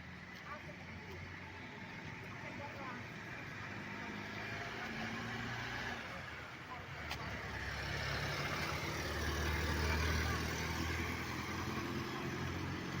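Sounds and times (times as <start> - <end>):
road noise: 0.0 - 13.0
vehicle engine running: 0.0 - 13.0.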